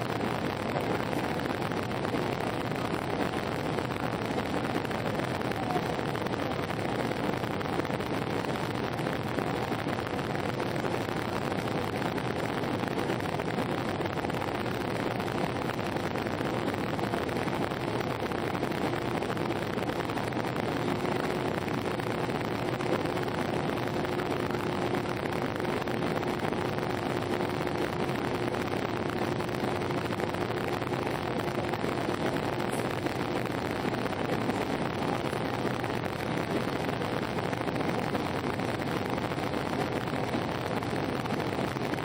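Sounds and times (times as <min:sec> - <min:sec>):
aircraft cabin engine rush: 0:00.0 - 0:42.0
faint steady hum: 0:00.0 - 0:42.0.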